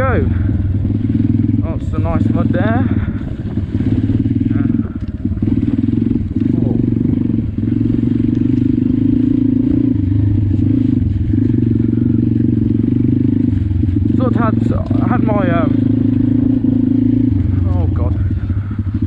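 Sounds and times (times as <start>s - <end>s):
pit bike engine revving: 0.0s - 19.0s.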